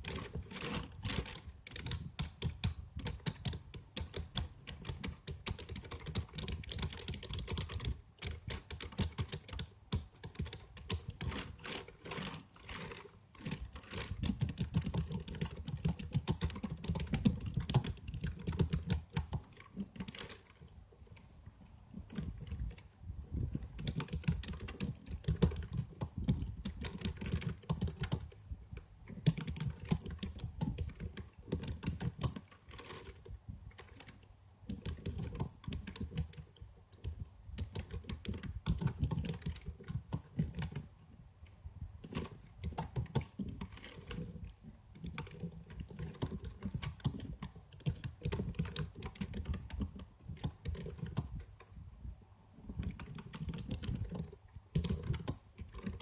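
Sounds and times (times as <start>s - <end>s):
typing on computer keyboard: 0.0s - 20.6s, 23.4s - 28.4s, 29.1s - 40.9s, 42.0s - 51.5s, 52.6s - 56.0s.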